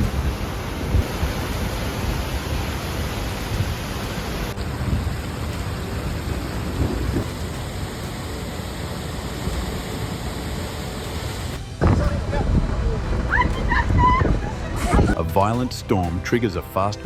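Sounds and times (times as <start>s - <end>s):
steady rain: 0.0s - 15.2s.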